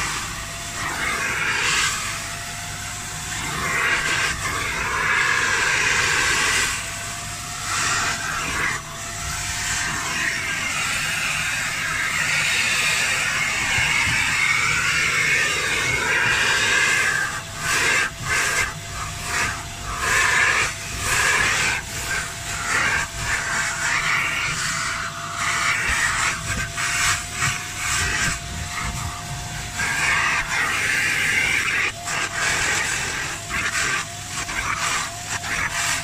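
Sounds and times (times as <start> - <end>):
carpet cleaner vacuum motor: 0.0 - 36.0.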